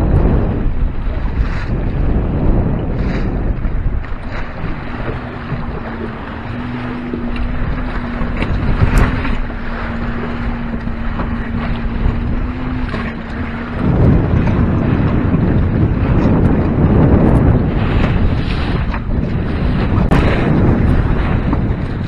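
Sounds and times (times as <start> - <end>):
water rushing along hull: 0.0 - 22.0
wind buffeting microphone: 0.0 - 22.0.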